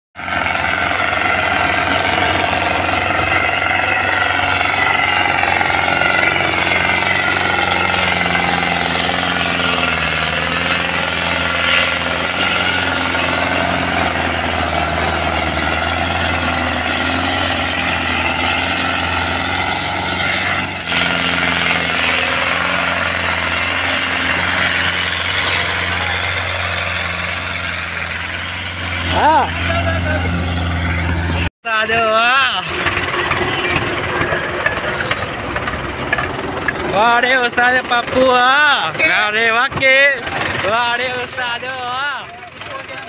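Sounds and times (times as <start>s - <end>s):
tractor diesel engines under load: 0.2s - 43.0s.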